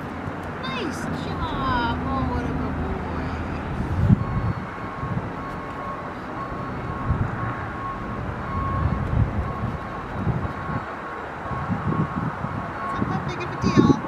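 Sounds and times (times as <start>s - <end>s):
road traffic rumble: 0.0s - 14.0s
wind buffeting microphone: 0.0s - 14.0s.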